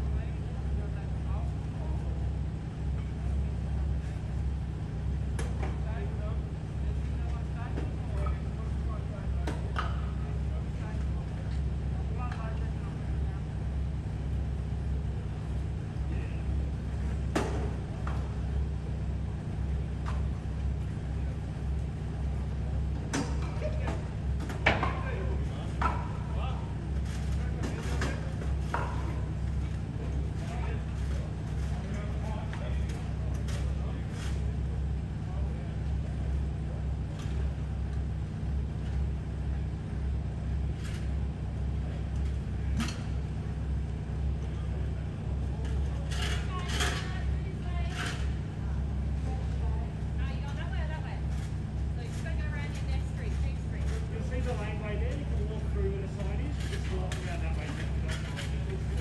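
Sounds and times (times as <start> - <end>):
diesel machinery idling: 0.0 - 59.0
low engine rumble: 0.0 - 59.0.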